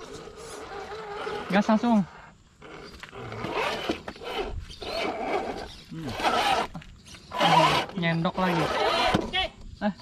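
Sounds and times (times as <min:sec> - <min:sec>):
rc car motor whirring: 0:00.0 - 0:09.5.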